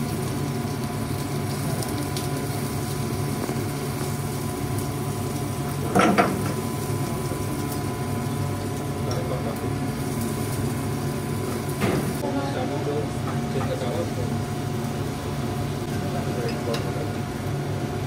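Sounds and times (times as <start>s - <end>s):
kitchen machinery hum: 0.0s - 18.0s.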